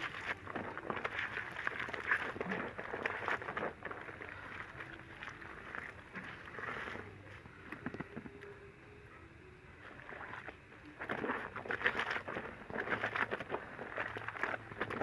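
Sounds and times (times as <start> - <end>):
wet fabric rubbed and sloshed: 0.0 - 8.1, 9.8 - 15.0
soapy water splashing: 0.0 - 8.3, 9.8 - 15.0.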